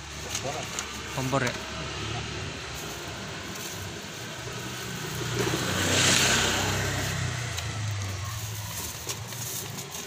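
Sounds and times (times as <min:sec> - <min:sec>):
vehicle passing by: 0:00.8 - 0:10.0.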